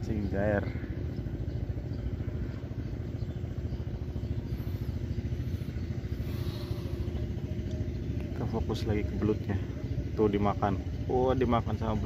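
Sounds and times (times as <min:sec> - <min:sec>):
small engine droning: 0:00.0 - 0:12.0.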